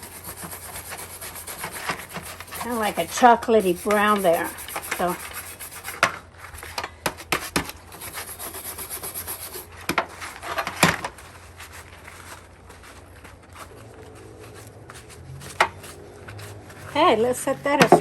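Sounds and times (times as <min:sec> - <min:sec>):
scrubbing rust off metal: 0:00.0 - 0:06.0, 0:07.4 - 0:13.8, 0:14.4 - 0:18.0.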